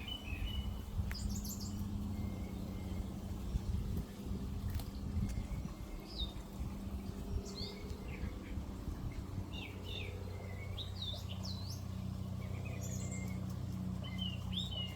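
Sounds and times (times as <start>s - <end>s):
low steady hum: 0.0s - 14.9s
songbird chirping: 0.0s - 14.9s.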